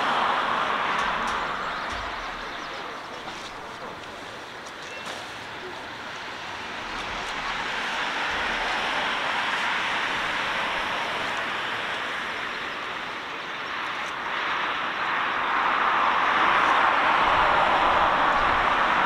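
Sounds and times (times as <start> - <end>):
jet engines at takeoff: 0.0 - 19.0.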